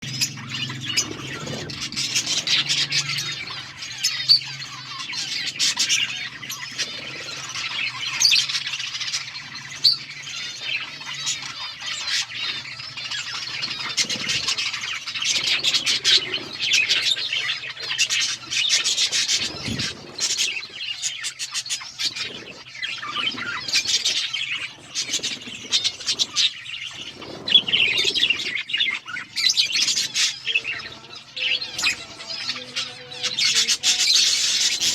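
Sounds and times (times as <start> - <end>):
budgies chirping: 0.0 - 34.9.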